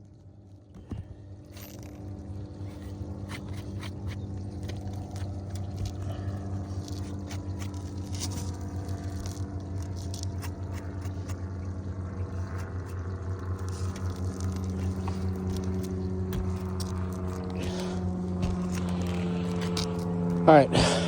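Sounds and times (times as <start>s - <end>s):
low mechanical hum: 0.0s - 21.0s
light scrapes and clicks: 0.8s - 11.4s, 12.3s - 20.4s.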